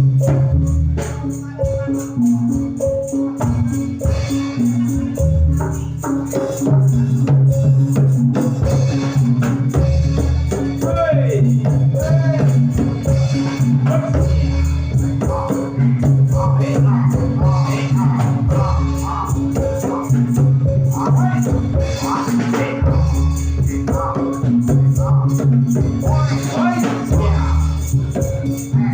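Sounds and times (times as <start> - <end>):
percussive beat: 0.0 - 28.9
person singing: 0.0 - 28.9.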